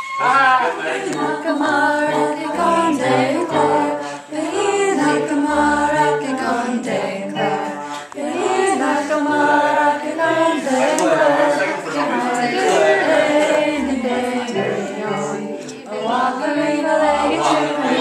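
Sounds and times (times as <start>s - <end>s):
music: 0.0s - 18.0s
voices singing together: 0.0s - 18.0s.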